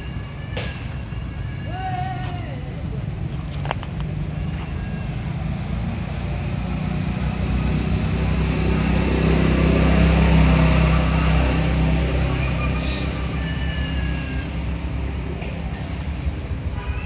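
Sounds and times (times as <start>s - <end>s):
vehicle engine rumbling past: 2.8s - 16.8s.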